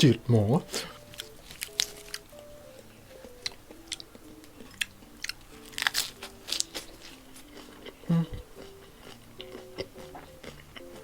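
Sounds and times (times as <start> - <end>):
faint background music: 0.0 - 11.0
chewing crunchy seafood: 0.5 - 11.0.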